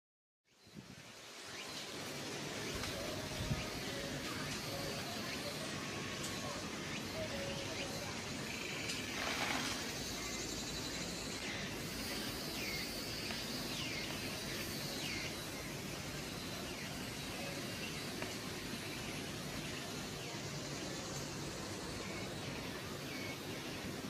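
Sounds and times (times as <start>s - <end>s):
background hiss: 0.5s - 24.0s.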